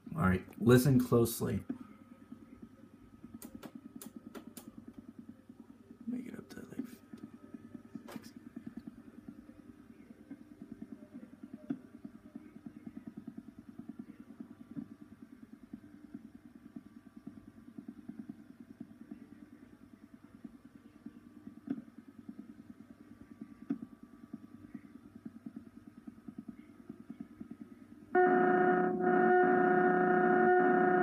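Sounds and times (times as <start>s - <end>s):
low buzzing hum: 0.0s - 31.0s.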